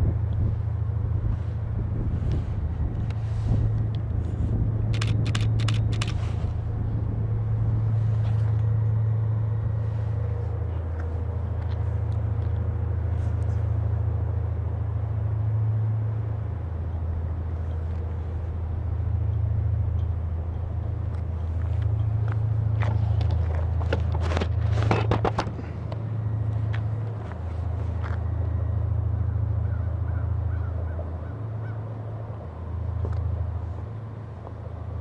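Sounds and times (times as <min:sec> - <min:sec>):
boat diesel engines humming: 0:00.0 - 0:35.0.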